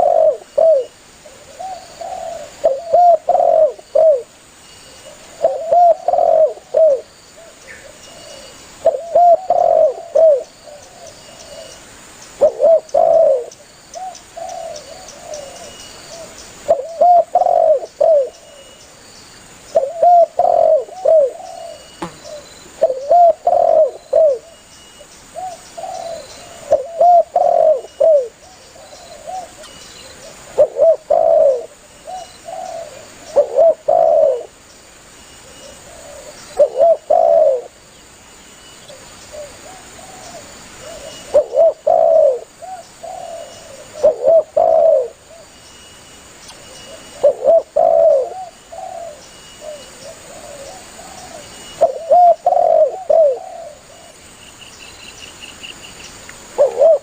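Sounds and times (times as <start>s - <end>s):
dove cooing: 0.0s - 4.3s, 5.1s - 11.8s, 12.4s - 18.7s, 19.8s - 24.6s, 25.4s - 34.6s, 35.4s - 37.8s, 38.9s - 45.5s, 46.6s - 54.2s, 56.5s - 57.0s.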